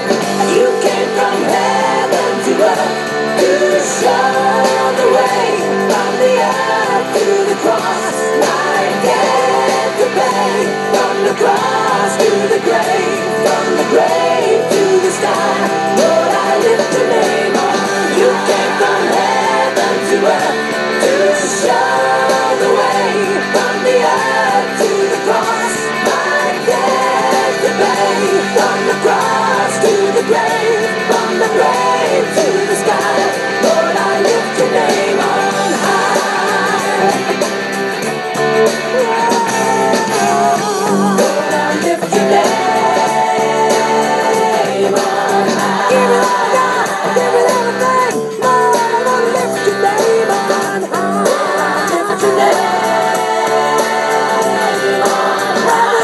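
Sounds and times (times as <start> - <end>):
song over loudspeaker: 0.0 - 56.0.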